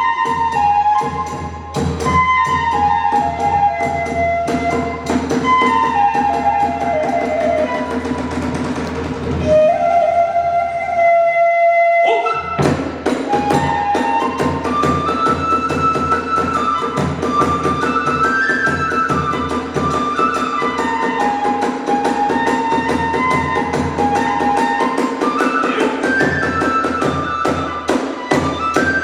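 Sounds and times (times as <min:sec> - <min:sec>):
taiko drums: 0:00.0 - 0:10.6, 0:12.5 - 0:29.0
bamboo flute melody: 0:00.0 - 0:29.0.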